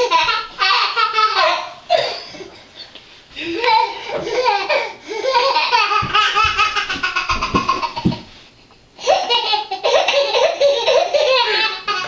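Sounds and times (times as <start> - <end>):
baby laughing: 0.0 - 2.6, 3.6 - 8.4, 9.0 - 12.0.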